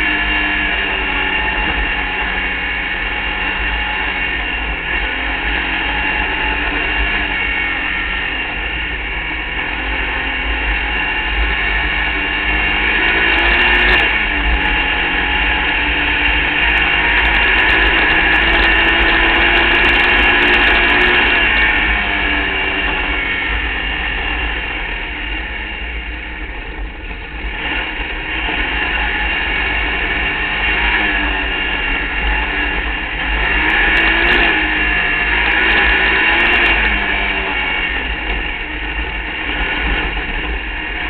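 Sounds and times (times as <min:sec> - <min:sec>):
low rumble: 0:00.0 - 0:41.0
race car engine under load: 0:00.0 - 0:41.0.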